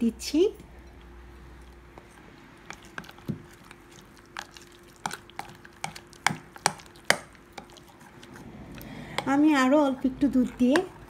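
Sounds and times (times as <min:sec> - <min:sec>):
spoon stirring batter: 0:00.9 - 0:11.0.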